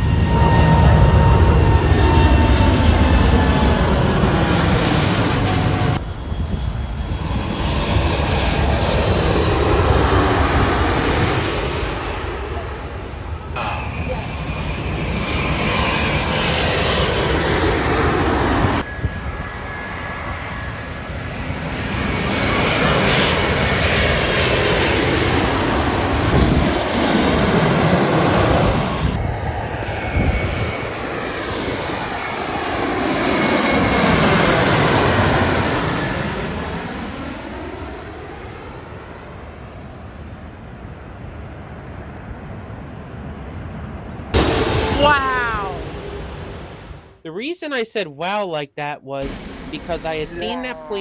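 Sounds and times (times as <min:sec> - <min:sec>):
jet engines passing overhead: 0:00.0 - 0:47.2, 0:49.2 - 0:51.0.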